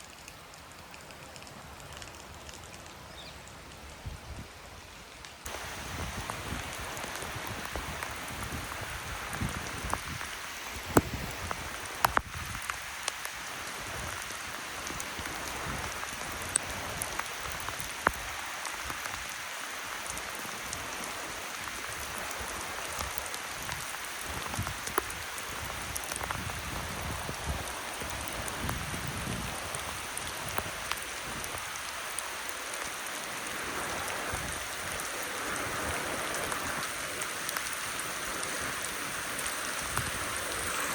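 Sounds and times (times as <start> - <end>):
raindrops ticking on surfaces: 0.0 - 40.9
steady rain falling: 0.0 - 40.9.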